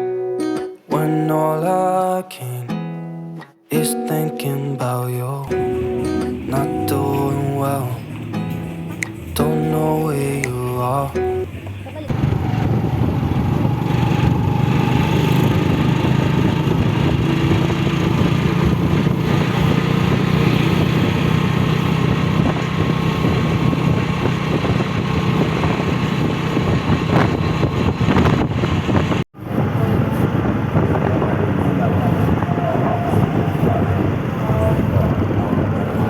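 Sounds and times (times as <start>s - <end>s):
vehicle low rumble: 5.5s - 36.0s.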